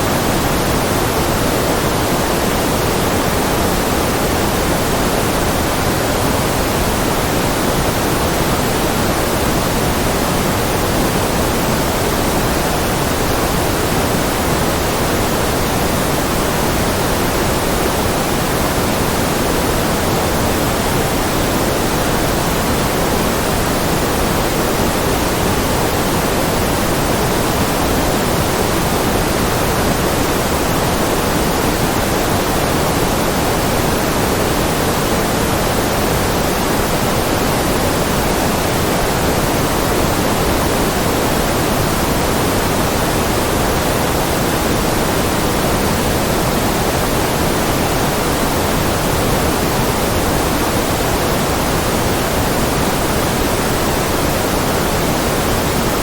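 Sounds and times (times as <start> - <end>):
low pink noise hiss: 0.0 - 56.0.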